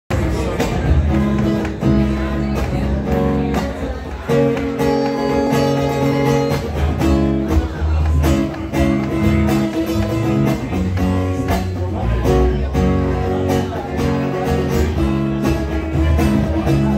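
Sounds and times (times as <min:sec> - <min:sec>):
acoustic guitar strumming: 0:00.1 - 0:16.9
bass guitar: 0:00.1 - 0:16.9
drum kit: 0:00.1 - 0:16.9.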